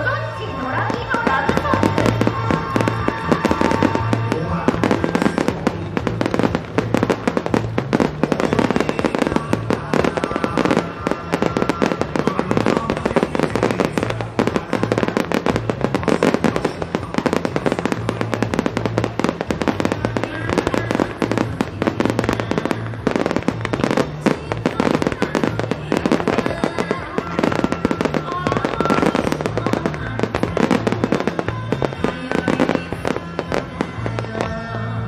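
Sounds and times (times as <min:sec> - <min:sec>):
fireworks bursting and crackling: 0:00.0 - 0:35.0
music over loudspeakers: 0:00.0 - 0:35.0.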